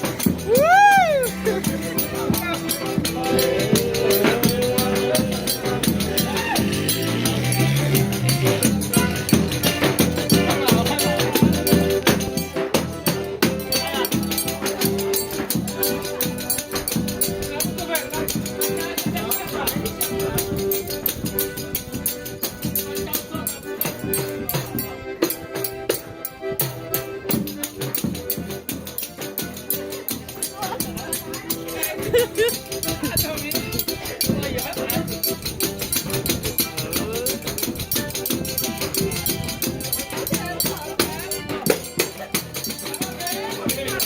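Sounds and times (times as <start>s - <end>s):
fast percussion beat: 0.0s - 24.8s, 27.3s - 44.0s
band playing live: 0.0s - 44.0s.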